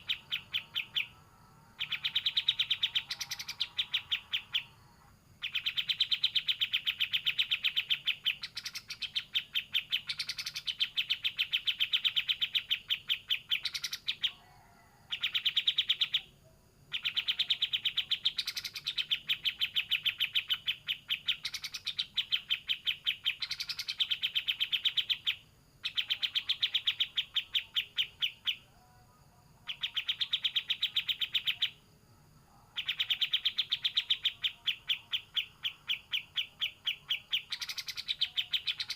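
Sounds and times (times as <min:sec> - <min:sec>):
songbird rapid high chirps: 0:00.0 - 0:14.5, 0:15.1 - 0:31.9, 0:32.5 - 0:38.9.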